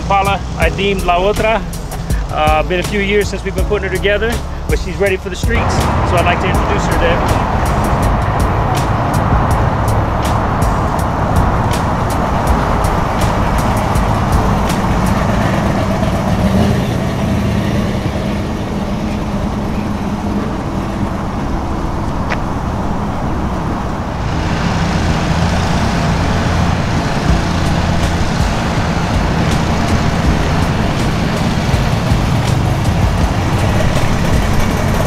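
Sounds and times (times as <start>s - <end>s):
car engine and exhaust driving past: 0.0s - 35.0s.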